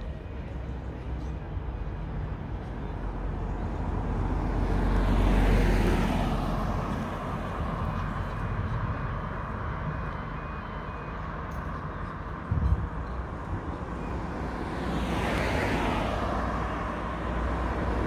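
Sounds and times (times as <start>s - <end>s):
steady low traffic rumble: 0.0s - 18.0s.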